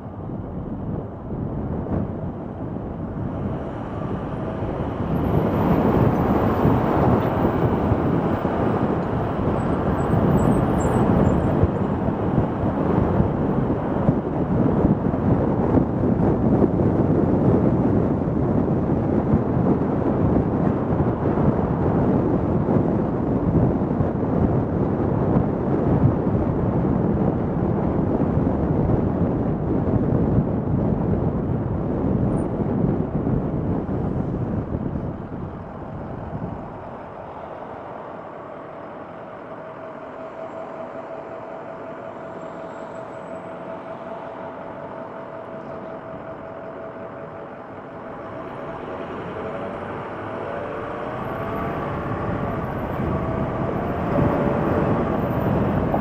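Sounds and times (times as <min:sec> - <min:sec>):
car engine hum: 0:00.0 - 0:56.0
road and wind noise: 0:00.0 - 0:56.0.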